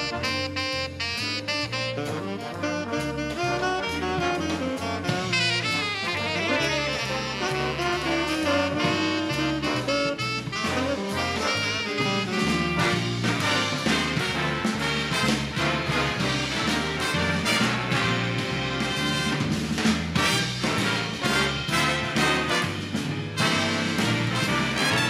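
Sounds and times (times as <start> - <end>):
saxophone section: 0.0 - 19.6, 20.2 - 25.0
bass line: 0.0 - 25.0
drum kit: 0.0 - 25.0
trumpets and trombones: 0.0 - 25.0.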